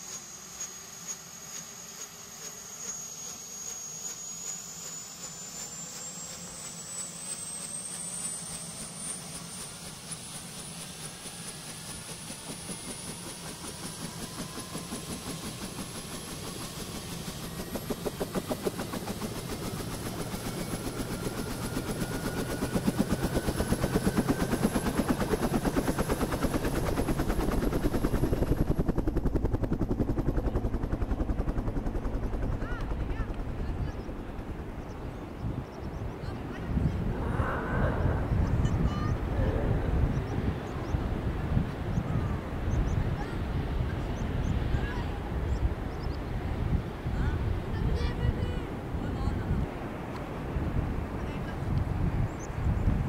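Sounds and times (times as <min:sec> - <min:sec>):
helicopter rotor chop: 0:00.0 - 0:53.0
turbine whine climbing: 0:00.0 - 0:53.0.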